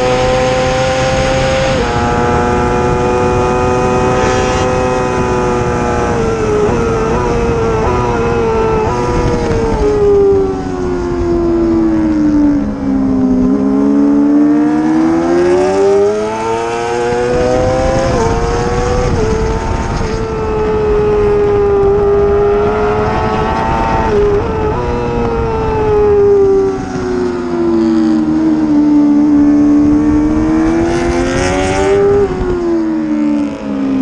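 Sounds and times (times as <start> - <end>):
racing motorcycle engine revving: 0.0 - 34.0.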